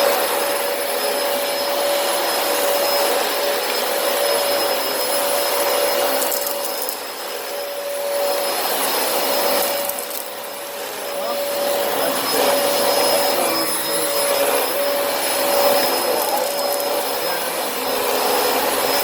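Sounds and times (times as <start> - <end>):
vacuum cleaner whine: 0.0 - 19.0.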